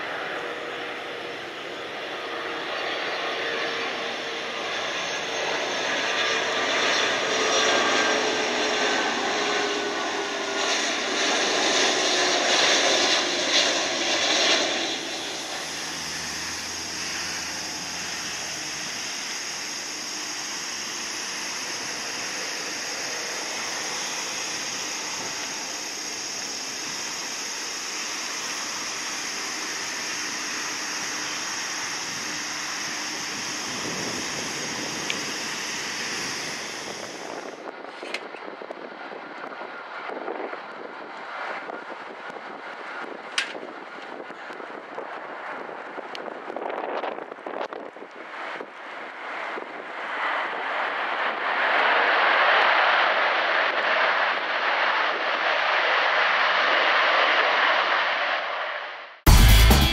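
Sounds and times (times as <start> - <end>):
airliner passing overhead: 0.0 - 59.3
jet taxiing hiss and whine: 0.0 - 59.9.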